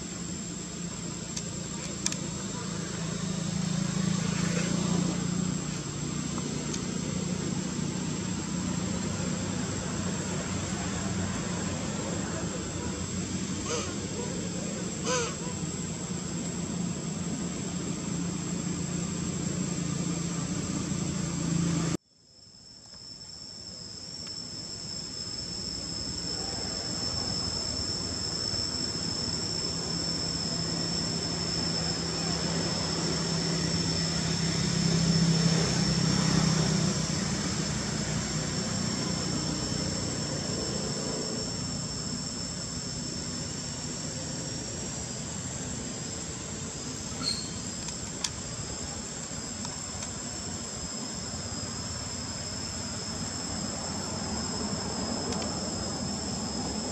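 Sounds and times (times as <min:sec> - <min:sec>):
high-pitched insect buzzing: 0:00.0 - 0:12.0, 0:13.4 - 0:21.7, 0:22.3 - 0:56.9.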